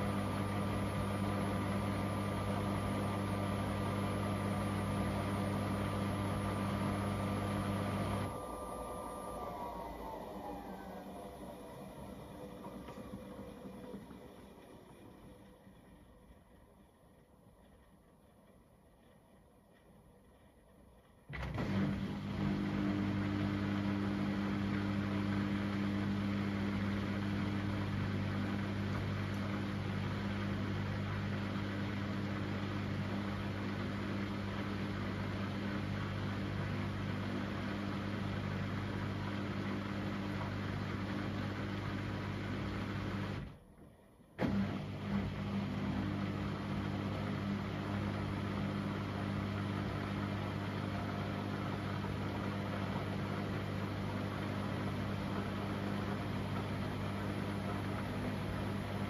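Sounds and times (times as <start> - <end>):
washing machine running: 0.0 - 59.0.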